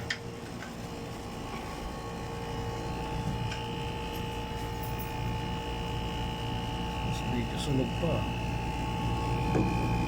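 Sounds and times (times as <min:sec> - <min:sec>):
air conditioner motor hum: 0:00.0 - 0:10.0.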